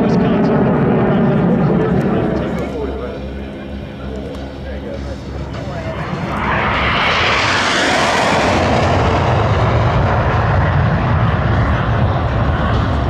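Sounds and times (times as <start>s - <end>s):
jet engine roaring past: 0.0s - 13.0s.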